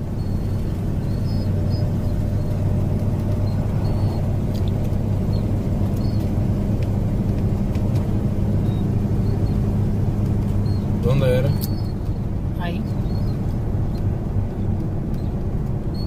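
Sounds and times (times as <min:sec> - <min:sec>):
car engine and road hum: 0:00.0 - 0:16.0.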